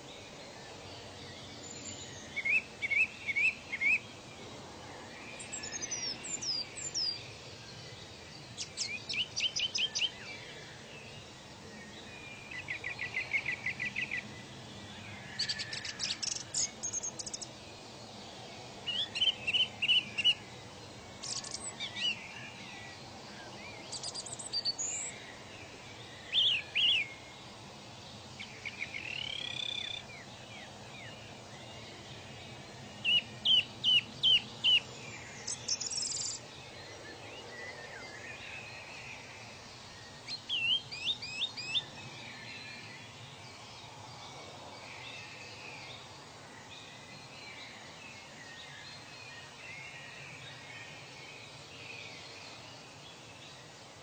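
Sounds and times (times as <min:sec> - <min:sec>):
faint background hiss: 0:00.0 - 0:54.0
songbirds chirping and trilling: 0:00.0 - 0:54.0.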